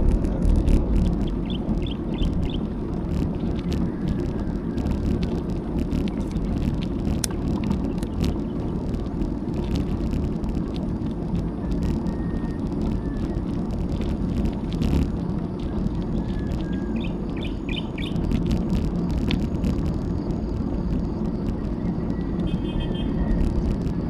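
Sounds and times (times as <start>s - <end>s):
bicycle clicks and rattles: 0.0s - 24.0s
wind buffeting microphone: 0.0s - 24.0s.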